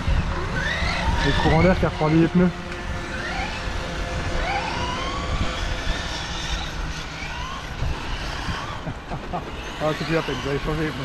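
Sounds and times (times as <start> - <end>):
rough noisy rumble: 0.0 - 11.0
toy car motor whine revving: 0.0 - 11.0.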